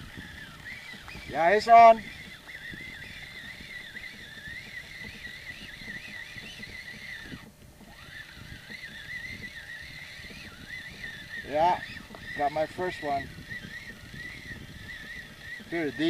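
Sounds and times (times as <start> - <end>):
fishing reel winding whine: 0.0 - 16.0.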